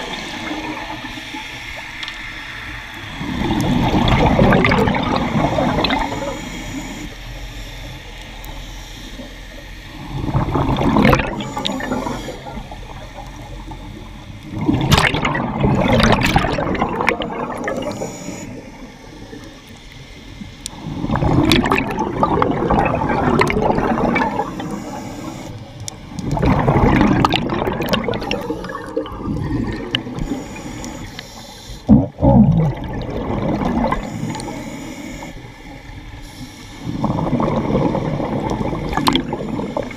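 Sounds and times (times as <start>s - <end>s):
underwater breath bubbling: 0.0s - 19.6s, 20.4s - 39.9s.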